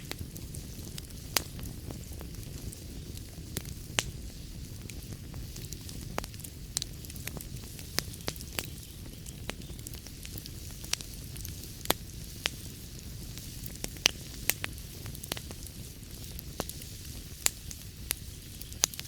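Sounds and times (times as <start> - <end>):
fire popping and snapping: 0.0 - 19.0
wood fire crackling: 0.0 - 19.0.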